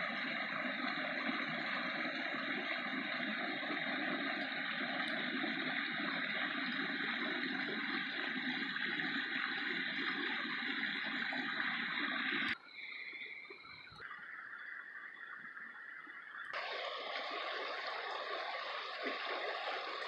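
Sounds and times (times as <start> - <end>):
creek flowing over stones: 0.0 - 20.0.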